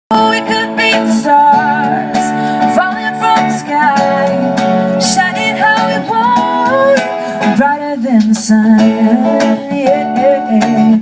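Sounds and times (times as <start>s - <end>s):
strummed acoustic guitar: 0.1s - 11.0s
woman singing: 0.1s - 11.0s.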